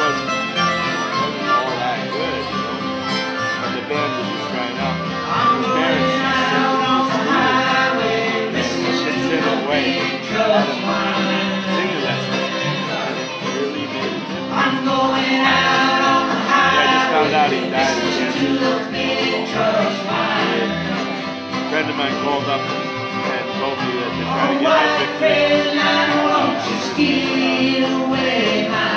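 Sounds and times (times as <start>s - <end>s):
bluegrass band playing live: 0.0s - 28.9s.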